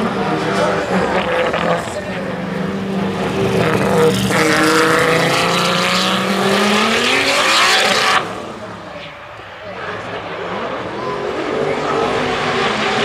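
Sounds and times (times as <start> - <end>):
car engines at high revs: 0.0 - 13.0.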